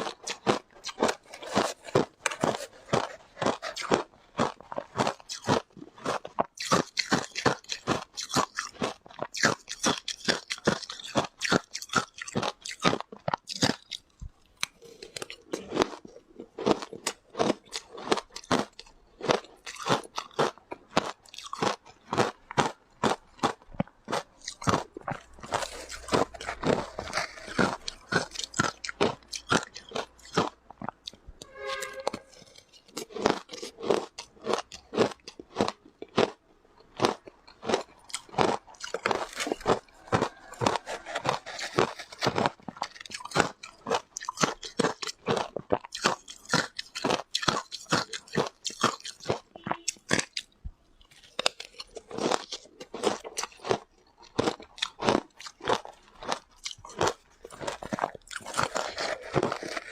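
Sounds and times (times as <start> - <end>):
chewing shaved ice crunches: 0.0 - 31.2, 32.5 - 59.9.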